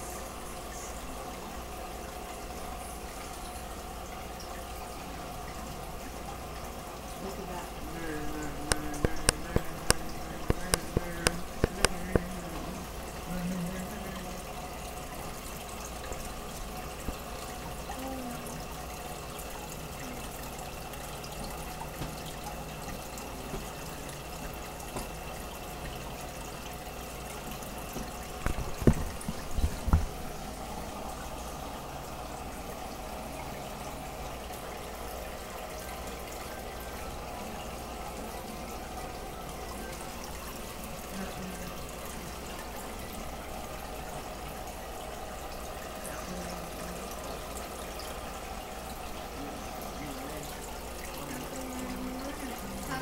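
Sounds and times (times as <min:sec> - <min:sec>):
water trickling and bubbling: 0:00.0 - 0:53.0.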